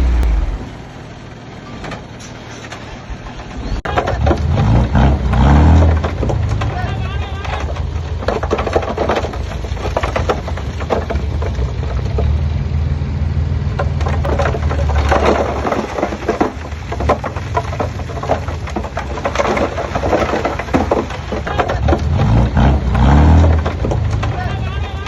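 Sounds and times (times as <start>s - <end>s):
heavy machinery diesel engine rumble: 0.0s - 25.0s
stone and soil crunching: 3.6s - 12.9s, 13.6s - 25.0s.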